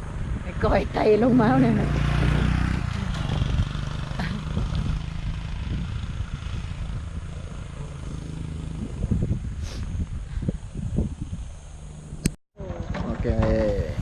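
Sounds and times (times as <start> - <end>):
vehicle engine and road hum: 0.0 - 14.0.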